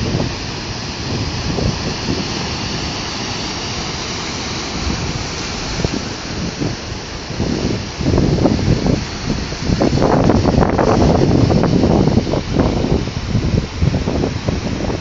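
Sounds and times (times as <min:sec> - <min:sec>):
rushing wind and surf: 0:00.0 - 0:15.0
wind buffeting microphone: 0:00.0 - 0:15.0.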